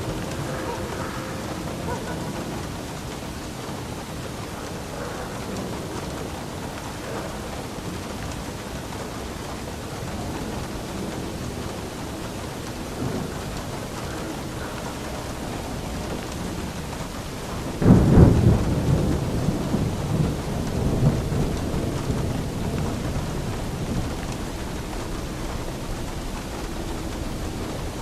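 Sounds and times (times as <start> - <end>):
steady rain: 0.0 - 28.0
thunder clap rumbling: 0.0 - 28.0.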